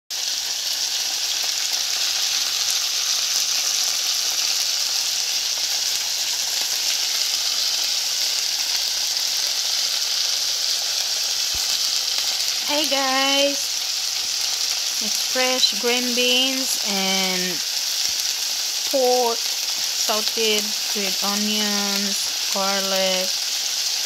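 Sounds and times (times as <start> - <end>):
food sizzling in frying pan: 0.1 - 24.0.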